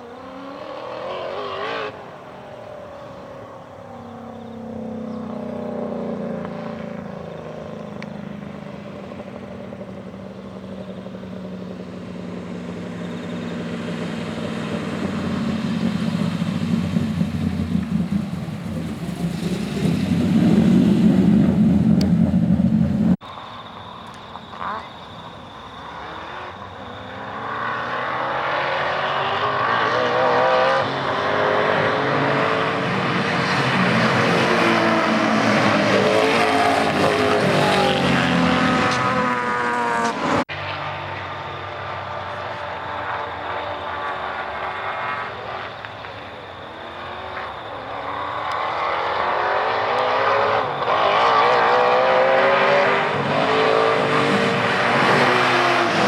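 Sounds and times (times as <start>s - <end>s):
race car engine accelerating: 3.9s - 23.2s, 25.7s - 56.0s.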